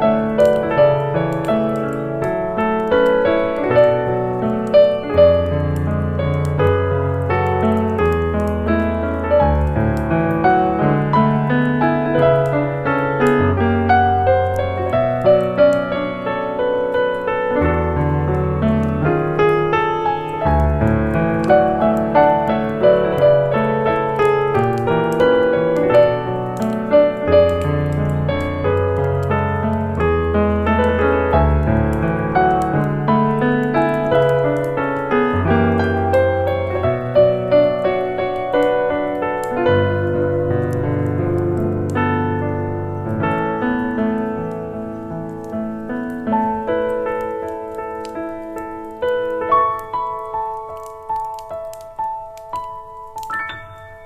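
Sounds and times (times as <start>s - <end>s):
soft jazz piano piece: 0.0s - 54.0s.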